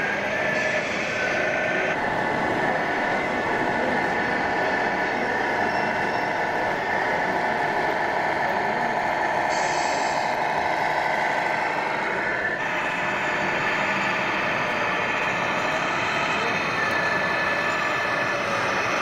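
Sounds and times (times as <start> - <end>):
simulated diesel engine sound: 0.0 - 19.0.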